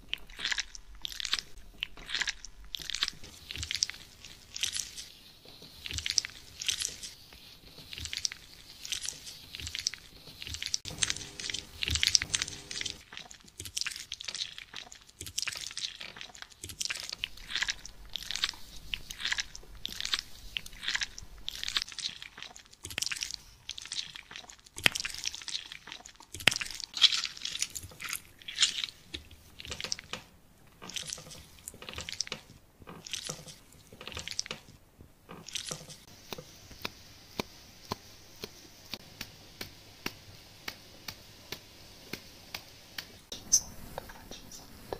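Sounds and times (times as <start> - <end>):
plastic gloves rubbing wet skin: 0.0 - 44.9.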